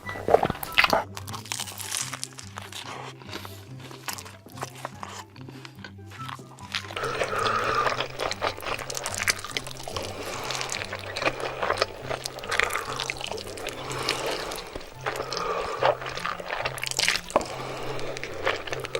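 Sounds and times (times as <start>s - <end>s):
wet chewing and slurping: 0.0s - 18.9s.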